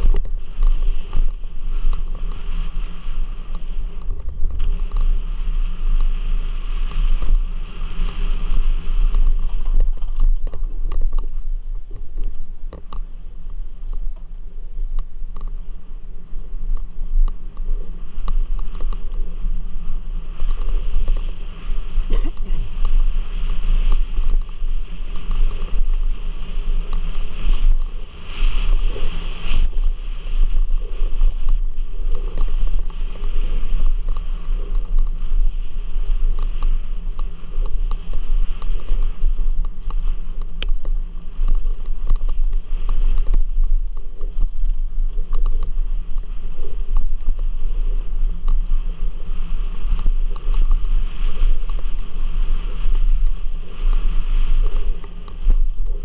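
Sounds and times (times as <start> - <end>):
wind buffeting: 0.0 - 56.0.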